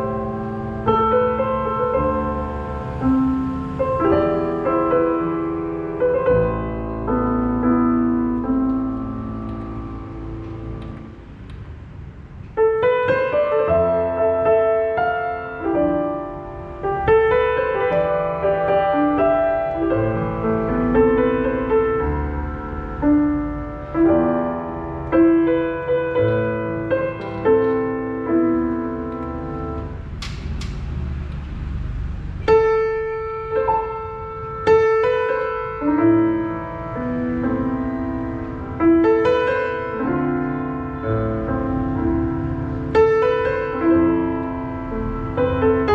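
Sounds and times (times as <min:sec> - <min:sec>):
slow melodic piano piece: 0:00.0 - 0:45.9.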